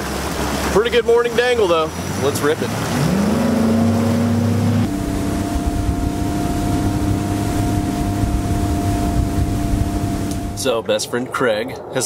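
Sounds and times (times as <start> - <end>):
outboard motor running: 0.0 - 10.7
water noise: 0.0 - 12.0
rushing wind: 1.9 - 12.0.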